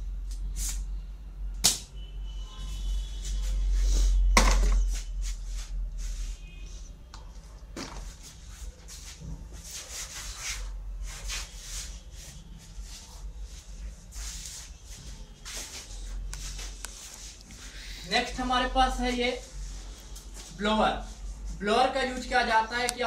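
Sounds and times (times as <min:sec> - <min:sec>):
steady low hum: 0:00.0 - 0:23.0
rubbing and handling noise: 0:02.6 - 0:22.4.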